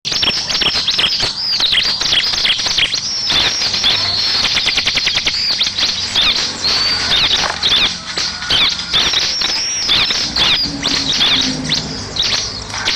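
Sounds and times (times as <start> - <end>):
bird chirping song: 0.1 - 12.9
bird rattling trill: 0.1 - 12.9.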